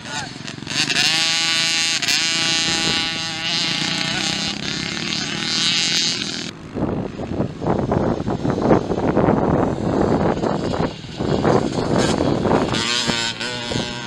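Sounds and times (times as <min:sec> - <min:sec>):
motocross bike engine revving: 0:00.0 - 0:14.0
rough noisy engine: 0:00.0 - 0:14.0.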